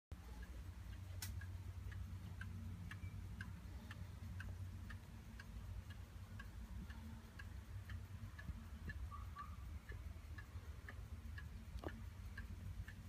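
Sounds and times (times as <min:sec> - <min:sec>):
low steady hum: 0:00.1 - 0:13.0
wall clock ticking: 0:00.2 - 0:13.0.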